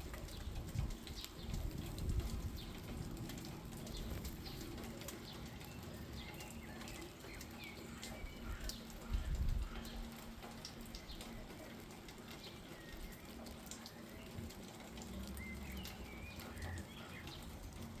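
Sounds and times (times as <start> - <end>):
light rain on plants: 0.0 - 18.0.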